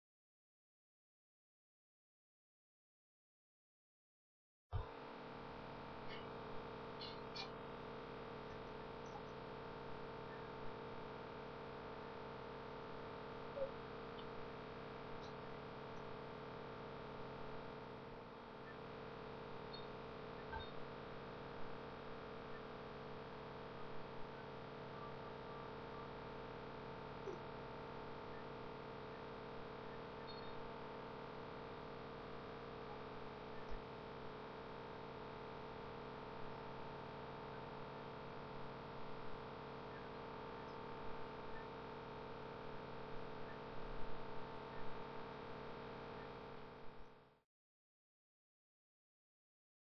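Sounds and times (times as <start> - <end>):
electrical hum: 4.8 - 47.1.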